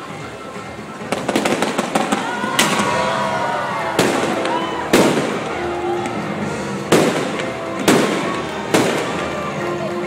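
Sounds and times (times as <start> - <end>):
fireworks bursting with crackle: 0.0 - 9.8
background music: 0.0 - 10.0.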